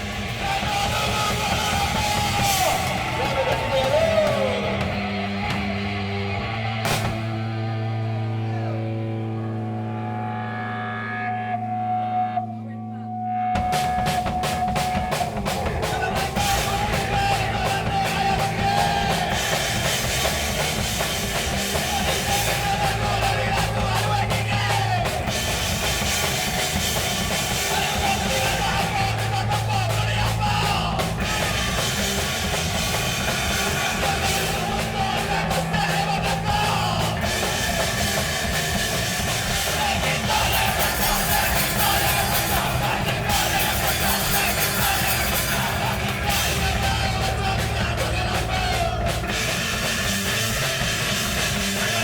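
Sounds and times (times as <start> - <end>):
fast drum kit: 0.0 - 7.4, 13.6 - 52.0
punk rock band playing: 0.0 - 11.8, 13.6 - 52.0.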